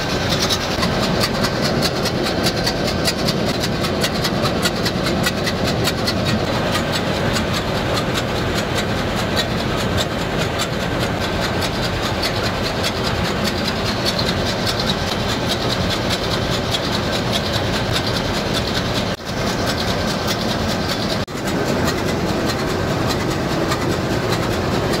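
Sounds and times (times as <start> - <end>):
marine diesel engine running: 0.0 - 25.0
rapid regular ticking: 0.0 - 25.0.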